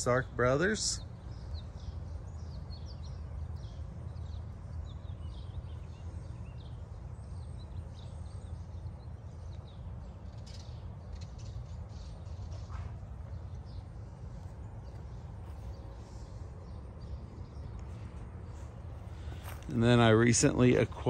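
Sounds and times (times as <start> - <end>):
songbirds chirping and singing: 0.0 - 21.0
steady low rumble: 0.0 - 21.0.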